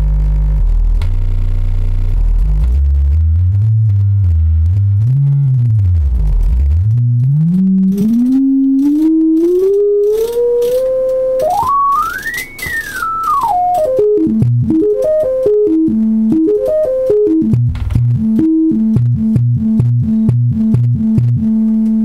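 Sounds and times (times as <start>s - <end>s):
pure test tone changing pitch: 2.6s - 22.0s.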